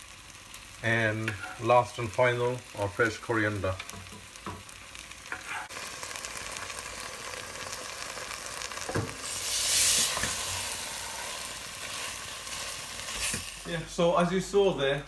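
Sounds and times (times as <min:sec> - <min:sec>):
chicken sizzling in a pan: 0:00.0 - 0:14.9.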